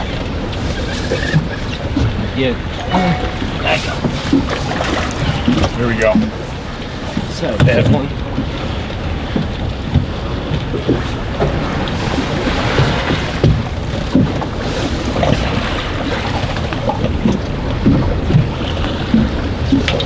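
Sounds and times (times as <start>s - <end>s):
waves: 0.0s - 20.0s.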